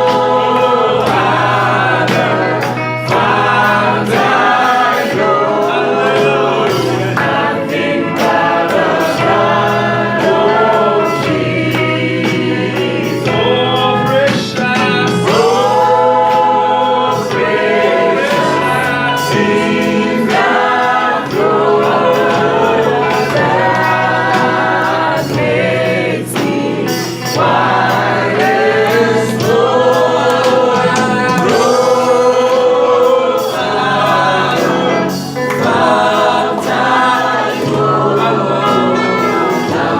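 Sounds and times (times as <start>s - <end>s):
choir singing gospel song: 0.0s - 39.9s.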